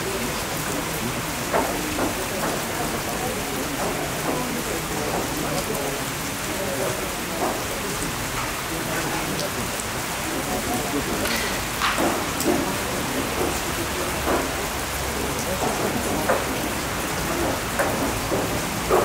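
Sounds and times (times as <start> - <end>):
faint indistinct voices: 0.0 - 19.0
steady rain: 0.0 - 19.0.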